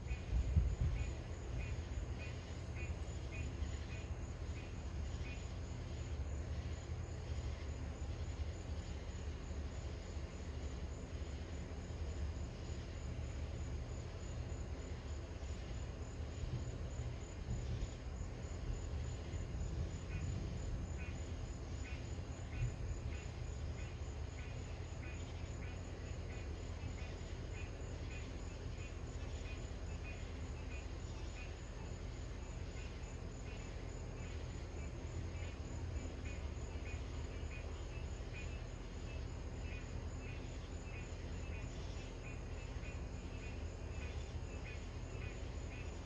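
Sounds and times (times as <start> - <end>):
crickets chirping: 0.0 - 46.0
steady low rumble: 0.0 - 46.0.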